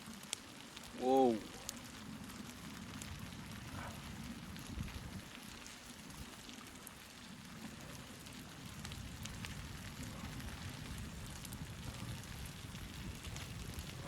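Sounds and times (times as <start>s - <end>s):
wood stove fire crackling: 0.0s - 14.0s.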